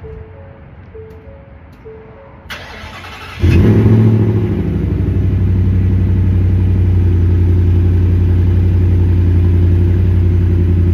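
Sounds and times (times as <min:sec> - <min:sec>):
car engine starting and idling: 0:01.0 - 0:10.9.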